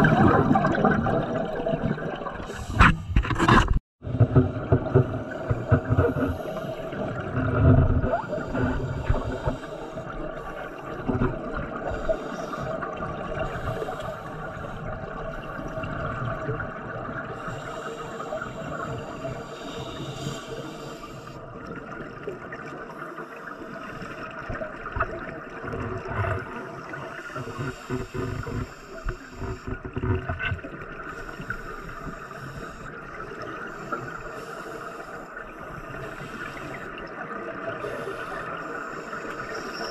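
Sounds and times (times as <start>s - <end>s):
underwater gurgling and bubbling: 0.0s - 39.9s.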